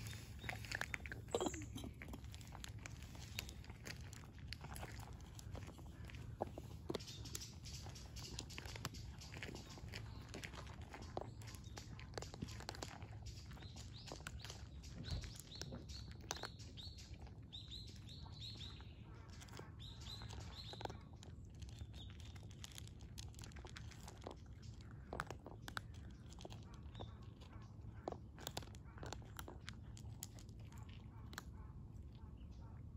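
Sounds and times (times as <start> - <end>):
small bird chirping: 0.0 - 22.8, 23.7 - 28.2
cats crunching dry kibble: 0.0 - 32.9.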